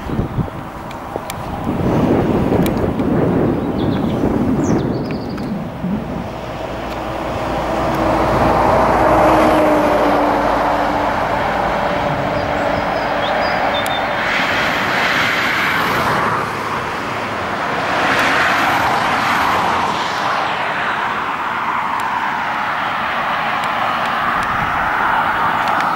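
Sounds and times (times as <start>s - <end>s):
vehicles passing on road: 0.0s - 25.9s.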